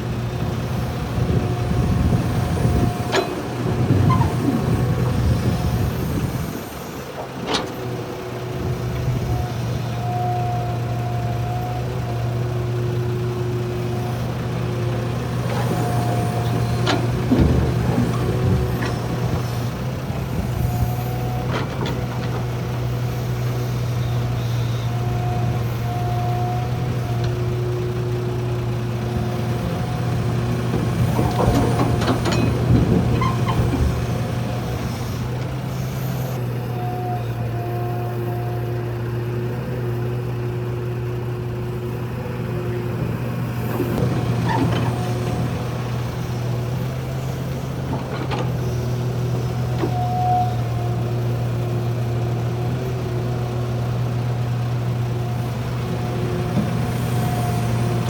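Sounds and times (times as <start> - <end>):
diesel machinery humming: 0.0 - 58.0.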